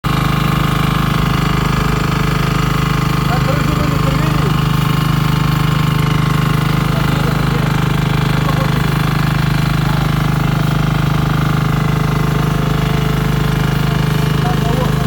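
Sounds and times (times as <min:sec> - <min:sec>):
pressure washer diesel engine running: 0:00.0 - 0:15.0.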